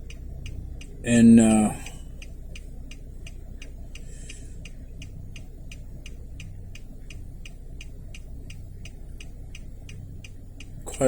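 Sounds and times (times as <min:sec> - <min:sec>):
low steady hum: 0:00.0 - 0:11.0
steady ticking: 0:00.0 - 0:11.0.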